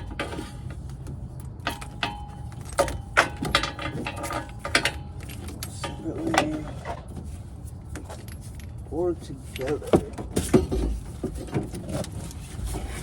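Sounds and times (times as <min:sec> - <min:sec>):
hands handling wiring and hardware: 0:00.0 - 0:13.0.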